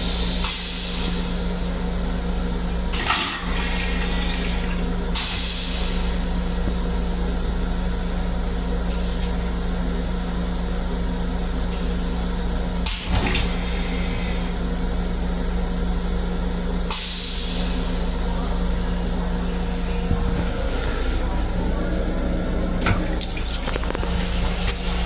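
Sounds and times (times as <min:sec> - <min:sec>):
railcar equipment hum: 0:00.0 - 0:25.0.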